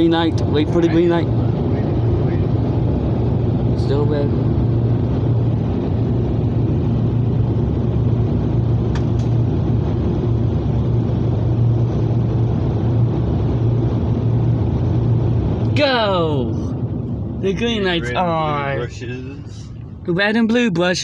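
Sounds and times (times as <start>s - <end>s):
car wash machine hum: 0.0s - 21.0s.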